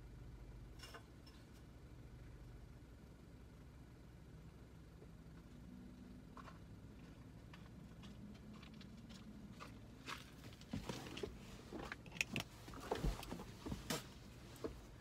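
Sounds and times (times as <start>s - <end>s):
faint low car cabin hum: 0.0s - 15.0s.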